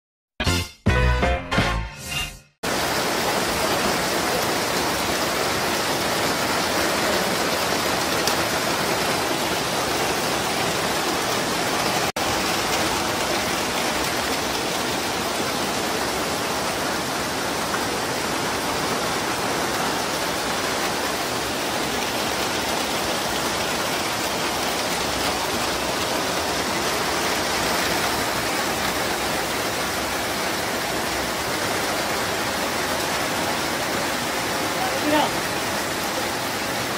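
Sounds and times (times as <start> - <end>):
heavy rain on foliage: 2.6 - 36.9.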